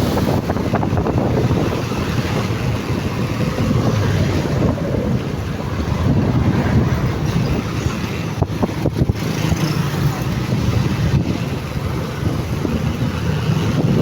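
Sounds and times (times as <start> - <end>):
road and traffic noise: 0.0 - 14.0.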